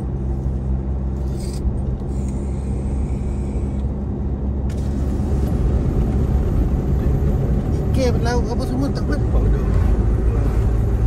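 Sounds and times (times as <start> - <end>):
car driving heard from inside: 0.0 - 11.0.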